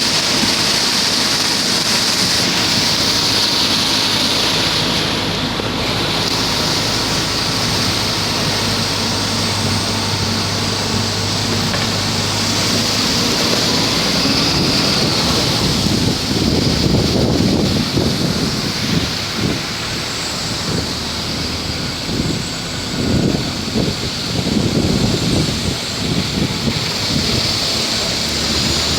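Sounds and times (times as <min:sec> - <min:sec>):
heavy rain pouring: 0:00.0 - 0:28.9
wind buffeting microphone: 0:00.0 - 0:28.9.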